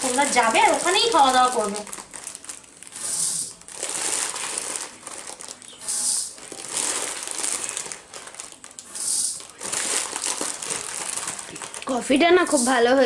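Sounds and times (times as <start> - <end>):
plastic packet crinkling: 0.0 - 13.0.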